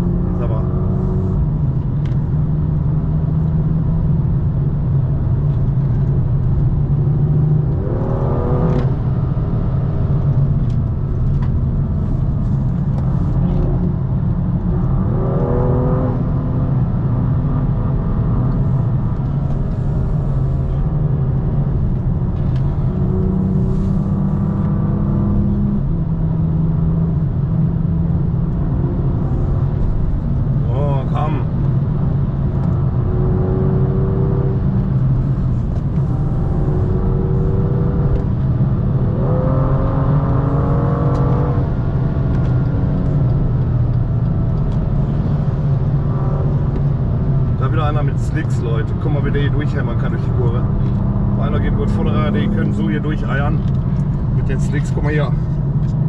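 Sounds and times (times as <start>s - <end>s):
car engine revving at speed: 0.0s - 56.0s.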